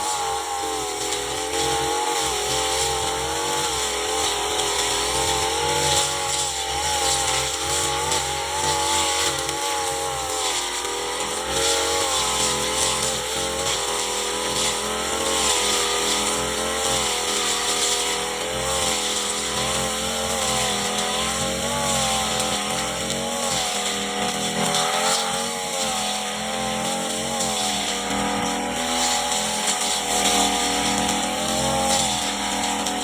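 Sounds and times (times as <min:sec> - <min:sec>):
brush cutter engine cutting grass: 0:00.0 - 0:33.0.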